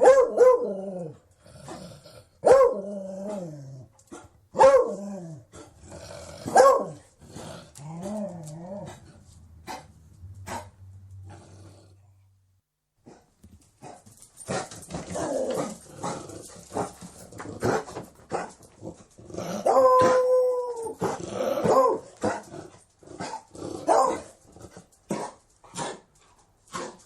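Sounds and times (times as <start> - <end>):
dog barking and growling: 0.0 - 12.0, 13.0 - 27.0.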